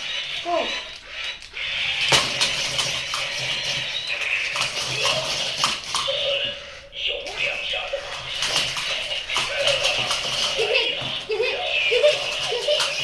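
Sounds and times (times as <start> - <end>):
toy robot motors whirring: 0.0 - 13.0.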